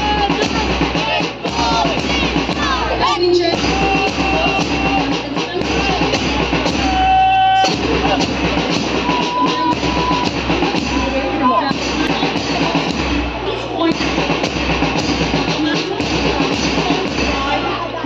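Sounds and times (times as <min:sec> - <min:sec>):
music with singing and beat: 0:00.0 - 0:18.0.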